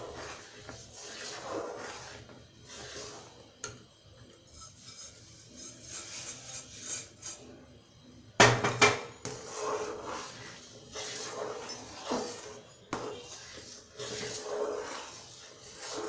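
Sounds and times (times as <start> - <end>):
metal spoon scraping a pan: 0.0 - 3.8, 4.4 - 7.6, 9.2 - 16.0.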